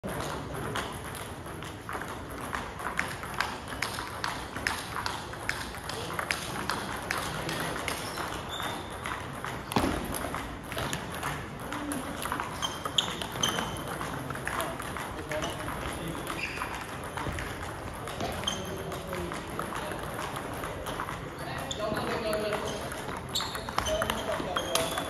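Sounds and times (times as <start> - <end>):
background chatter: 0.0 - 25.0
table tennis balls clicking: 0.0 - 25.0.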